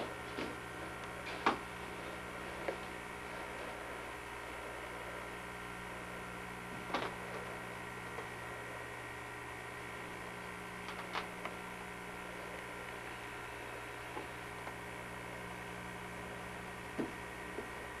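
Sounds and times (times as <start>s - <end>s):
camcorder hum and hiss: 0.0s - 18.0s.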